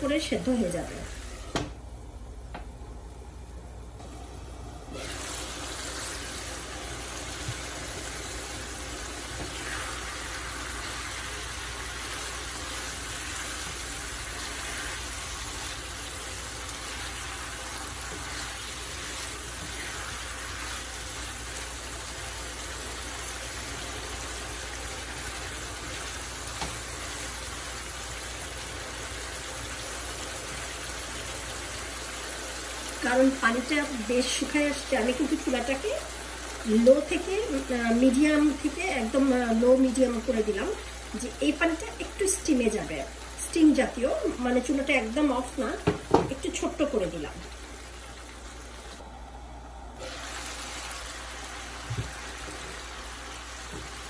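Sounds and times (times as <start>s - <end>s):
sauce bubbling in a pan: 3.2s - 54.0s.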